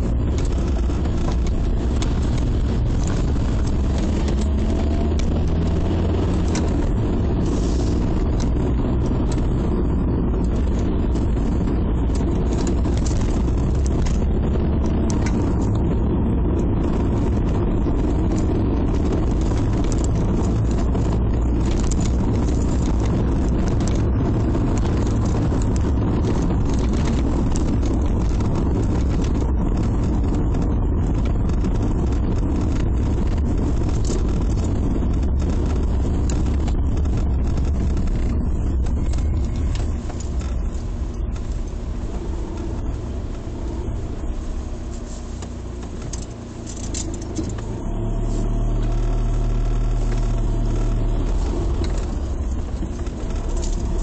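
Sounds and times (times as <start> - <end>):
car cabin engine and road rumble: 0.0 - 54.0.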